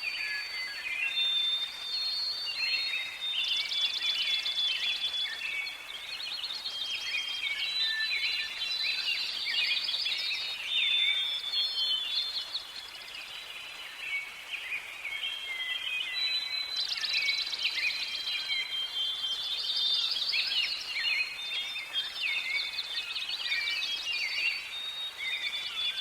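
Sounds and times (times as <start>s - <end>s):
birds singing and calling: 0.0s - 26.0s.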